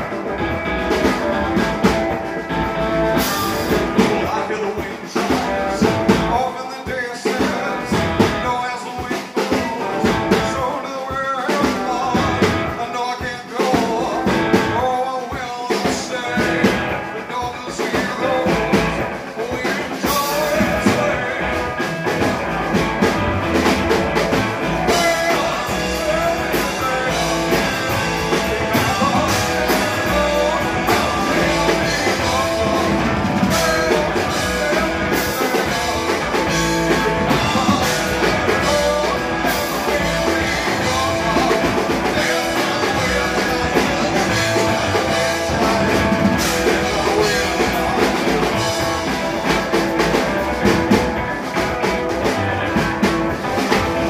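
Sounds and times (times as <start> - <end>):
drum kit: 0.0 - 54.0
electric guitar: 0.0 - 54.0
man singing: 0.0 - 54.0.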